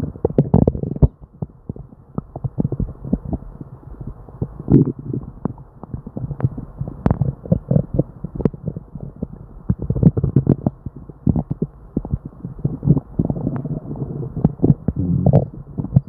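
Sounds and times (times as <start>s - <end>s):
stomach gurgling and popping: 0.0s - 16.0s.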